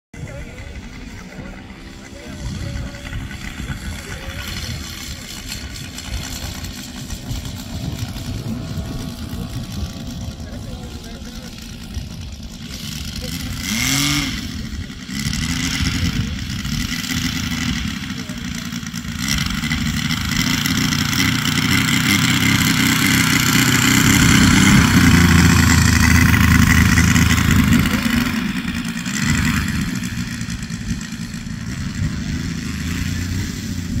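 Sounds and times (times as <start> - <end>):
model airplane engine running: 0.2 - 34.0.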